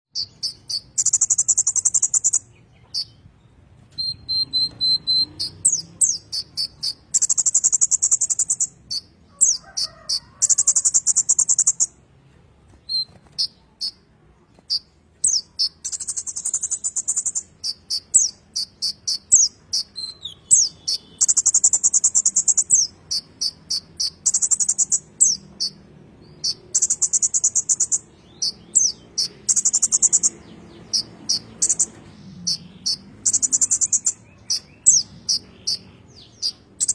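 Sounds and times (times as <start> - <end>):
sunbird singing buzzing trills: 0.2 - 3.2, 4.0 - 11.9, 14.7 - 36.9
bird sharp sweeping chirps: 0.2 - 3.3, 3.9 - 12.0, 12.8 - 36.9.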